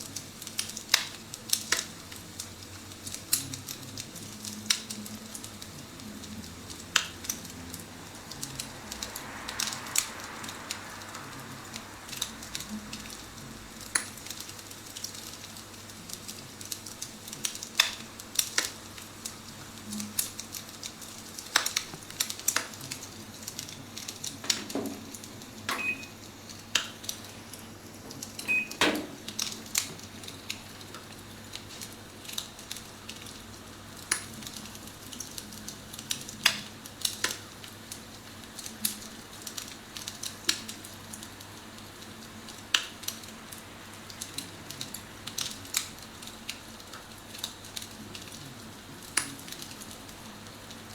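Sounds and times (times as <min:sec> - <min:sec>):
fire crackling: 0:00.0 - 0:50.9.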